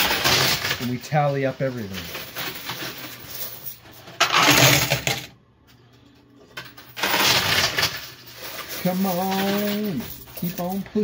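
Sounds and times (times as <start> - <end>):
coins clattering on metal: 0.0 - 5.3, 6.4 - 11.0.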